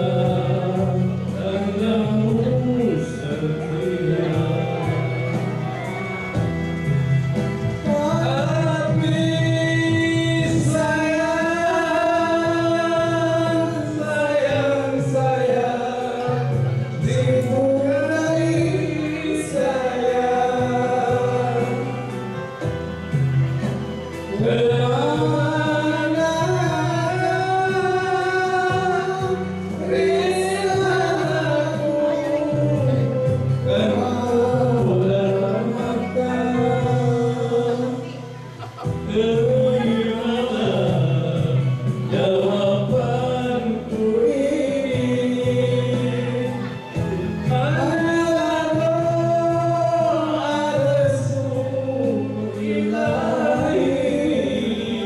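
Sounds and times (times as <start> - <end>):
man and woman singing duet: 0.0 - 6.2, 7.6 - 22.6, 24.2 - 55.0
backing track music: 0.0 - 55.0.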